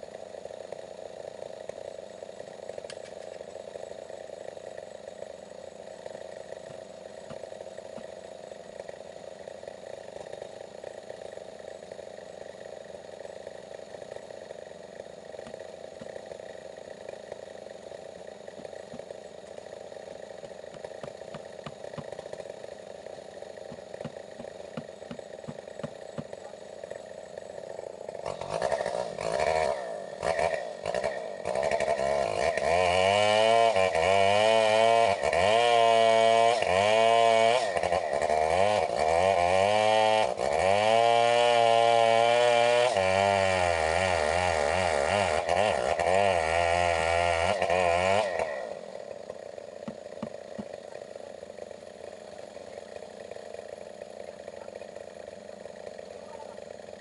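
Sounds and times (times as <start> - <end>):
chainsaw running and revving: 0.0 - 57.0.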